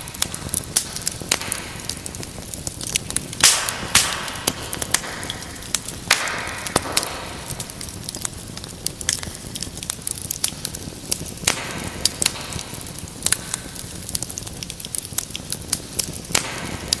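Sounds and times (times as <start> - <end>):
fireplace fire crackling and popping: 0.0 - 17.0
hiss of flames: 0.0 - 17.0.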